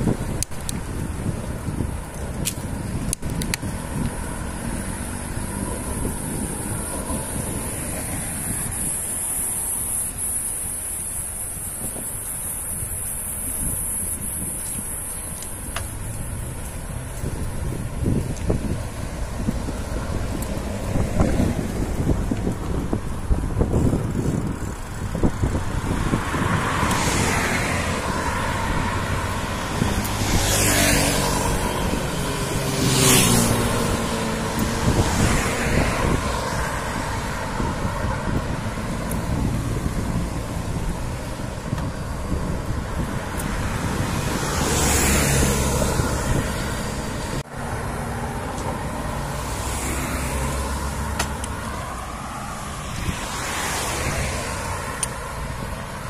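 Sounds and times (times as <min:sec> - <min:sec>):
cars passing: 0:00.0 - 0:56.0
low traffic rumble: 0:00.0 - 0:56.0.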